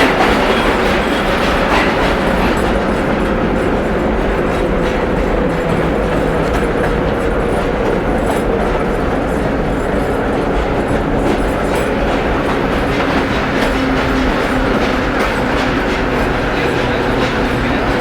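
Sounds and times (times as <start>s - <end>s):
subway train rumbling: 0.0s - 18.0s
wheels clicking over rail joints: 0.0s - 18.0s.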